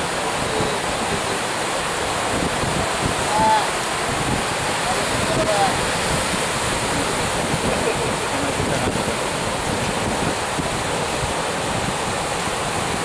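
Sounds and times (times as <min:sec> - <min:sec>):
surf washing over boulders: 0:00.0 - 0:13.0.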